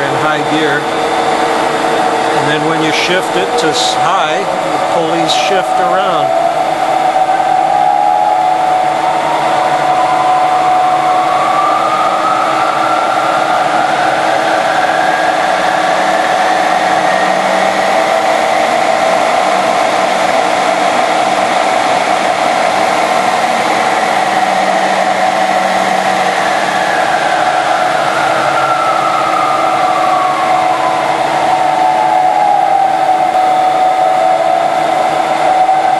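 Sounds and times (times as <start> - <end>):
lathe pulley drive whine: 0.0 - 35.9
rising whine: 0.0 - 35.9.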